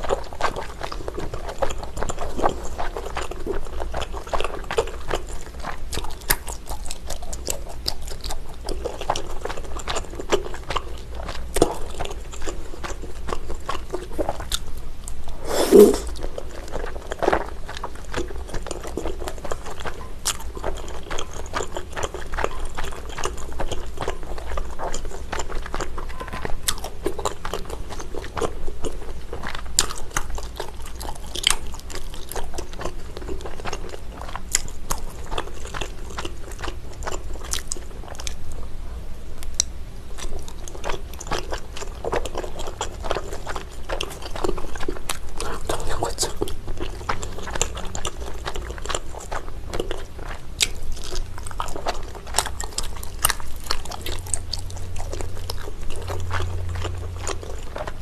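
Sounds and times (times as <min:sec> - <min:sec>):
chewing sticky food: 0:00.0 - 0:58.0.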